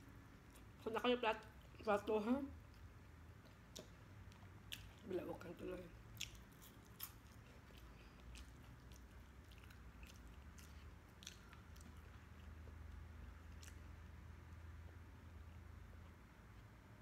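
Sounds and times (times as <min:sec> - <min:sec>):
person chewing food: 0:00.4 - 0:00.8, 0:02.6 - 0:05.1, 0:05.9 - 0:17.0.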